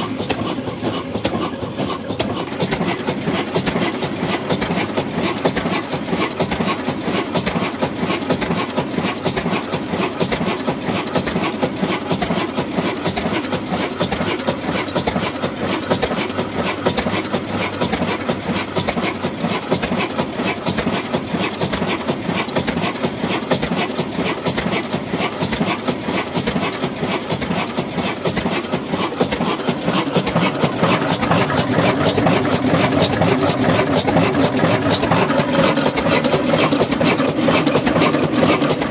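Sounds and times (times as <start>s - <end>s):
stationary diesel engine clattering: 0.0s - 38.9s.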